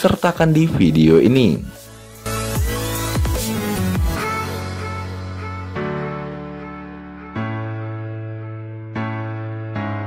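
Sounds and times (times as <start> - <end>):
background music held chords: 0.0 - 10.0.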